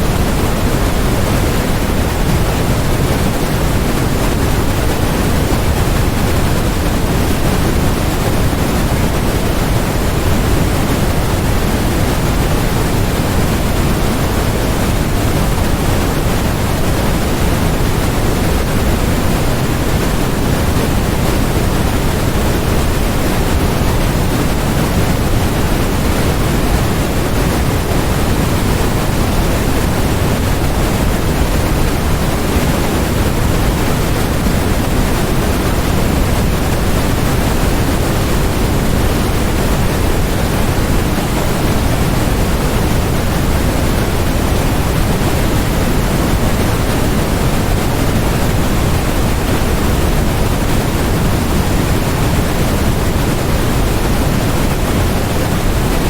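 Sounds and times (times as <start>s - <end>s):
low steady noise rush: 0.0s - 56.0s.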